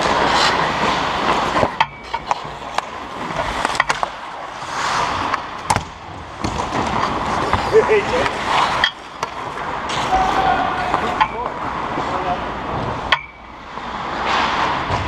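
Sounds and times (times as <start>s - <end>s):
hockey sticks and puck clacking: 0.0s - 12.2s, 14.0s - 15.0s
skates scraping ice: 0.0s - 15.0s.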